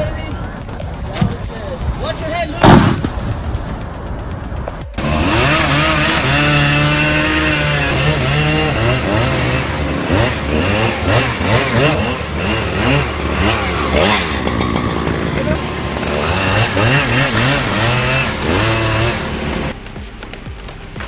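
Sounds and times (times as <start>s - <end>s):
engine revving: 0.7s - 21.0s.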